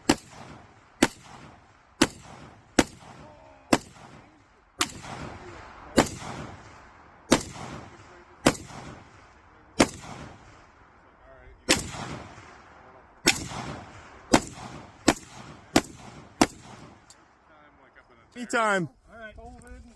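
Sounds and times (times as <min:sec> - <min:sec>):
rifle shots with echo: 0:00.0 - 0:17.5.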